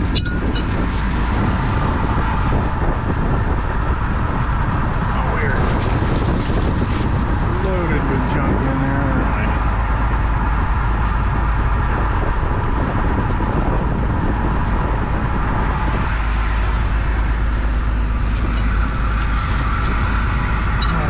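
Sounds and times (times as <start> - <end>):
combine harvester engine rumble: 0.0 - 21.0
whir of threshing machinery: 0.0 - 21.0.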